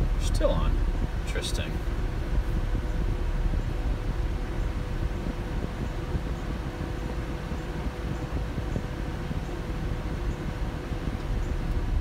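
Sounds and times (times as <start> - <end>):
radiator fans running: 0.0 - 12.0.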